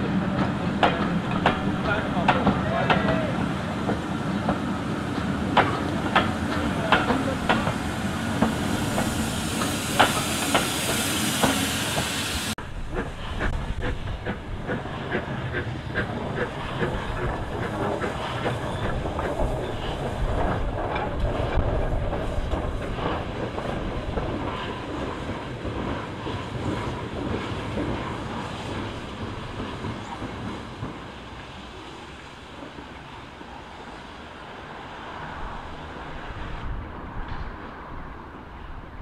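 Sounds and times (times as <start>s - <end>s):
steam locomotive passing: 0.0s - 39.0s.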